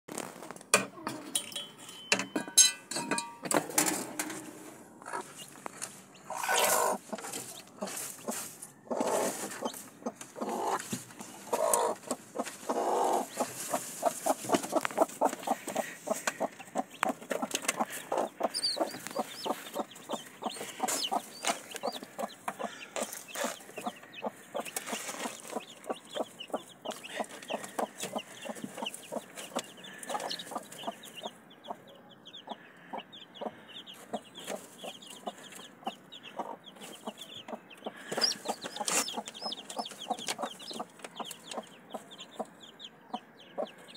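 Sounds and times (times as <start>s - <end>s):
chicks peeping: 4.9s - 43.9s
hen clucking: 4.9s - 43.9s.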